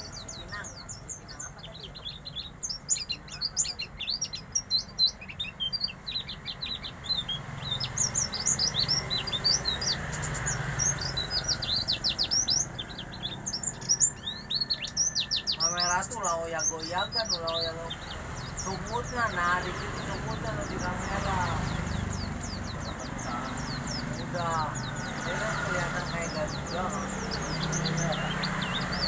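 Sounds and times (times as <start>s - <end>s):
bird singing high chirps: 0.0s - 29.0s.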